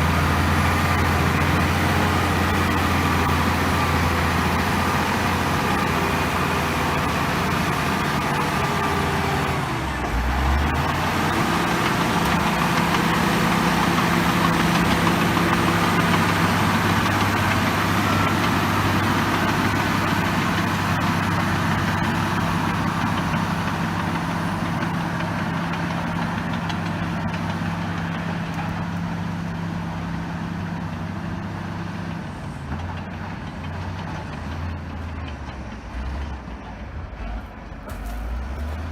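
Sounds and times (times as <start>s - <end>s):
bulldozer diesel engine revving: 0.0s - 38.9s.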